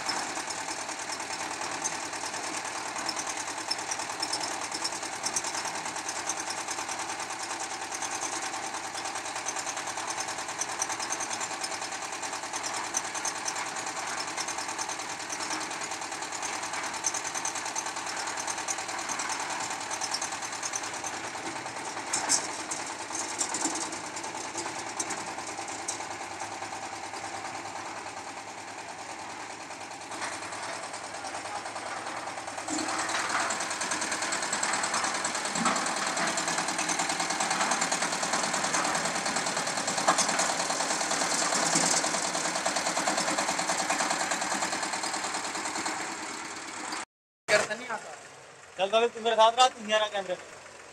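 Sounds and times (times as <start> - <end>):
concrete mixer diesel engine: 0.0 - 50.9.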